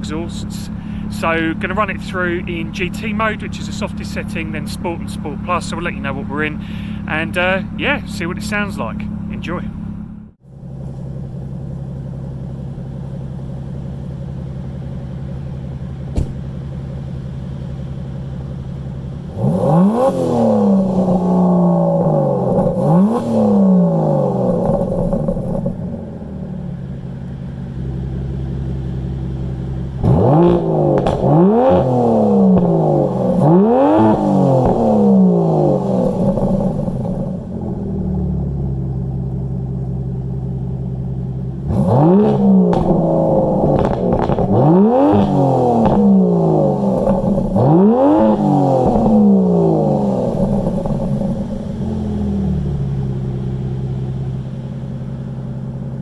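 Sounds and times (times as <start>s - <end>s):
car engine idling: 0.0s - 56.0s
car engine revving: 0.0s - 56.0s.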